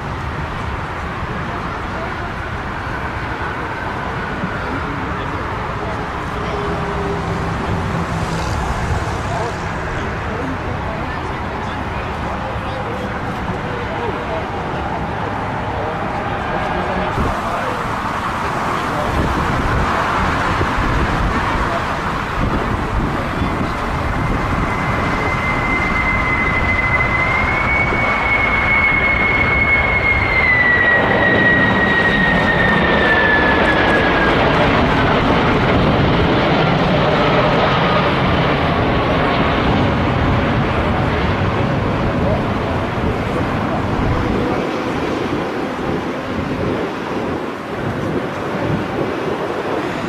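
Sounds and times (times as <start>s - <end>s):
jet airliner passing: 0.0s - 50.0s.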